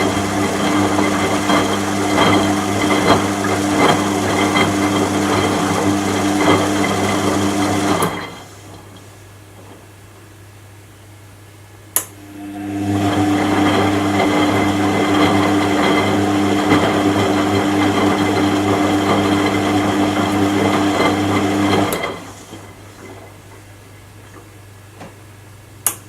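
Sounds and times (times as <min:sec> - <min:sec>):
washing machine motor humming: 0:00.0 - 0:26.0.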